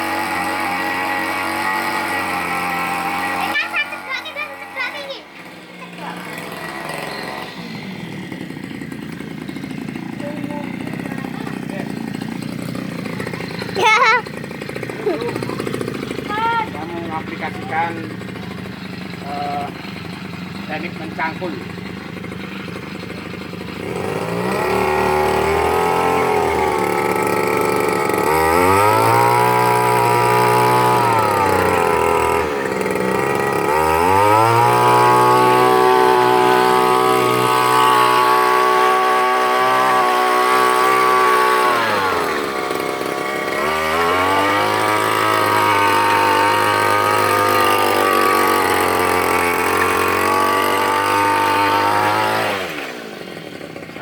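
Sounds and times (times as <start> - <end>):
brush cutter engine revving: 0.0 - 54.0.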